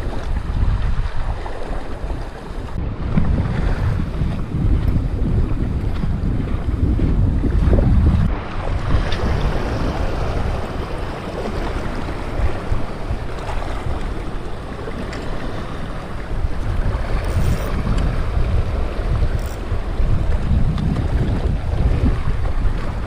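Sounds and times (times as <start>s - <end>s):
waves lapping against rocks: 0.0s - 23.0s
wind buffeting microphone: 0.0s - 23.0s.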